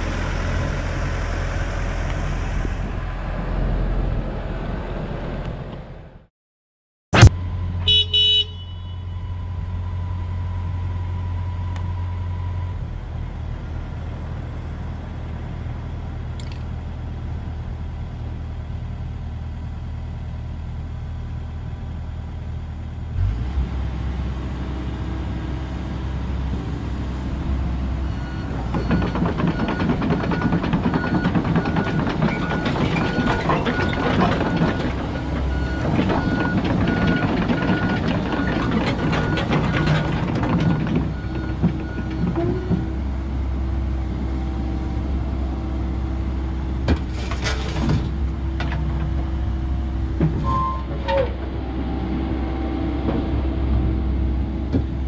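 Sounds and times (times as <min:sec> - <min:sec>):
excavator diesel engine running: 0:00.0 - 0:06.0, 0:07.2 - 0:55.0.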